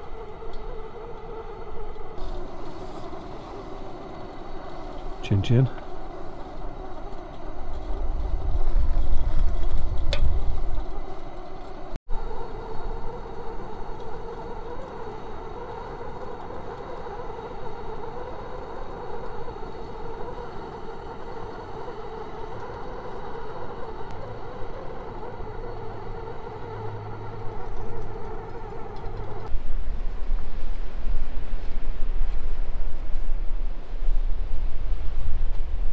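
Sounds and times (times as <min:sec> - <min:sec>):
gas heater burner rushing: 0:00.0 - 0:35.9.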